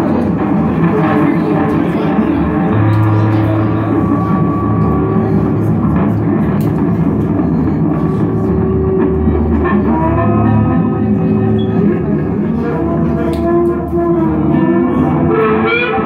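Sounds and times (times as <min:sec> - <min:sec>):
electric guitar noise music: 0:00.0 - 0:16.0
steady low drone: 0:00.0 - 0:16.0.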